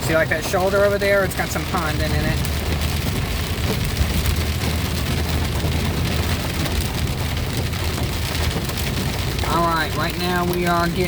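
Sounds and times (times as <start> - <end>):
engine and tyres rumble: 0.0 - 11.0
heavy rain on car roof: 0.0 - 11.0.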